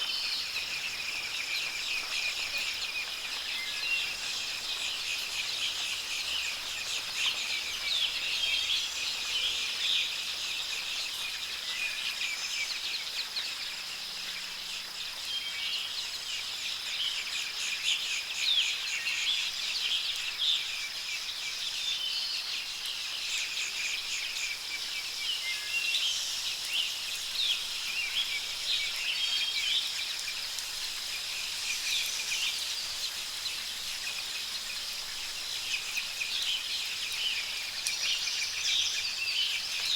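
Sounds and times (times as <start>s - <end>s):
soft rain hiss: 0.0s - 39.9s.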